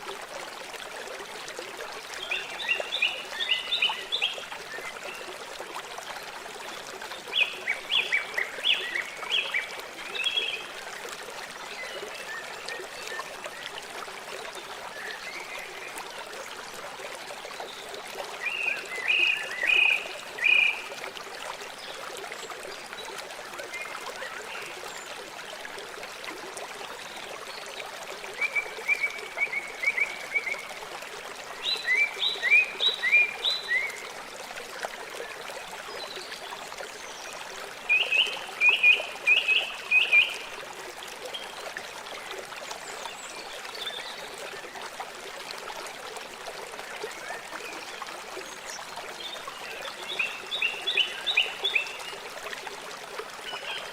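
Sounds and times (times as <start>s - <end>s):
river flowing: 0.0s - 53.9s.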